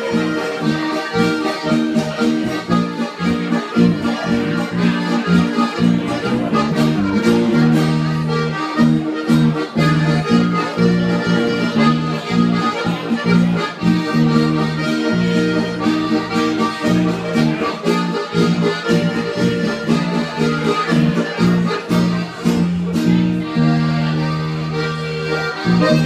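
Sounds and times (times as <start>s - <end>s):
folk band with accordions: 0.0s - 26.0s.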